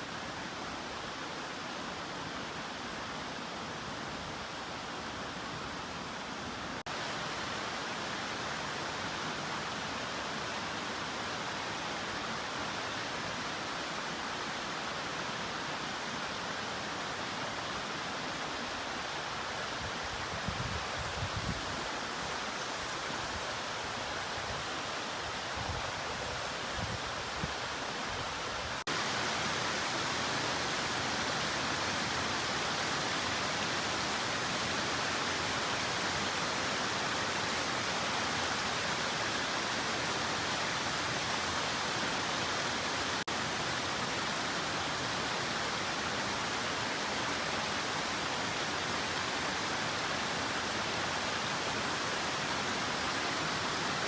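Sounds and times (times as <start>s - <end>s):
rush of flowing water: 0.0s - 54.0s.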